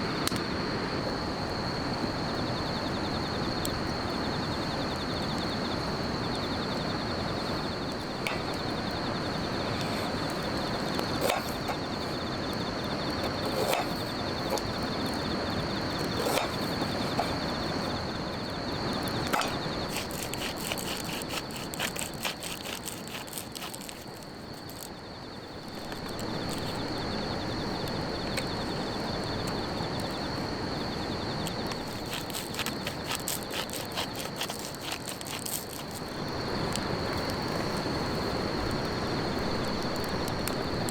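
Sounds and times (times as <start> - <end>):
insects chirring: 0.0 - 40.9
outdoor background noise: 0.0 - 40.9.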